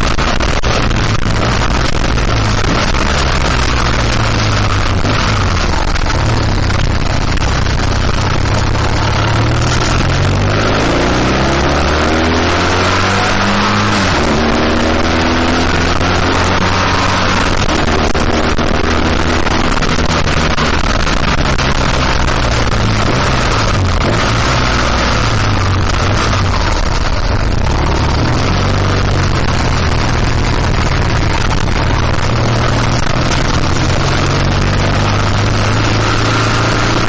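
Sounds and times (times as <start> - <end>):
motorcycle engine pulling hard: 0.0 - 37.0
wind rush on microphone: 0.0 - 37.0.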